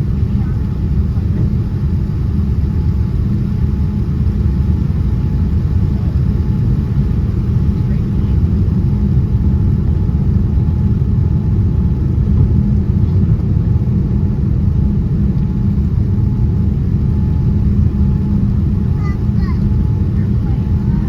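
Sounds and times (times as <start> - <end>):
jet engine and airflow rumble: 0.0 - 21.0.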